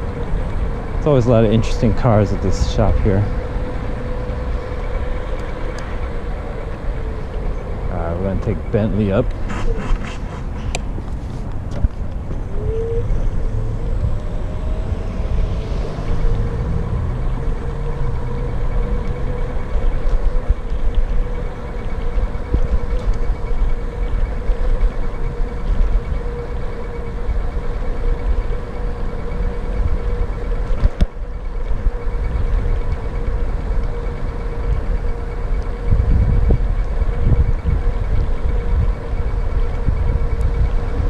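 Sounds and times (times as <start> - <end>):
electric scooter motor whining: 0.0 - 41.0
low rumble: 0.0 - 41.0.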